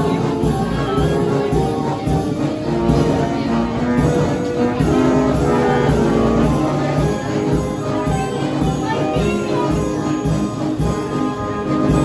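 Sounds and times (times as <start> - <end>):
band organ playing: 0.0 - 12.0.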